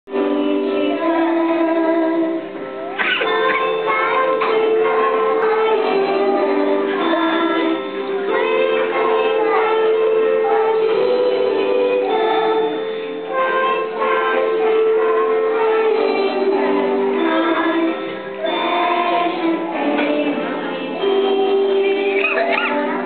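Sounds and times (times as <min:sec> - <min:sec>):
slow music with singing: 0:00.1 - 0:23.0.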